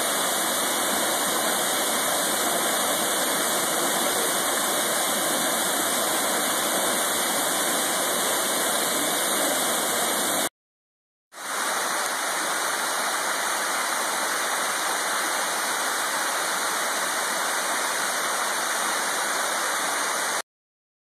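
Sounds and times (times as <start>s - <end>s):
waterfall roaring: 0.0s - 10.5s, 11.4s - 20.4s.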